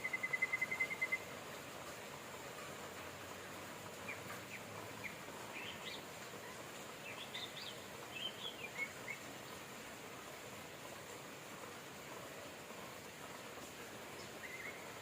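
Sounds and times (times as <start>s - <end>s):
songbirds chirping: 0.0s - 15.0s
steady rain hiss: 0.0s - 15.0s.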